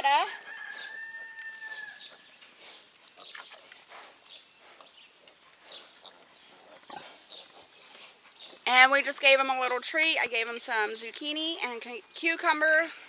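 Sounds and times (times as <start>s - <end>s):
farm animals chirping and squeaking: 0.0s - 13.0s.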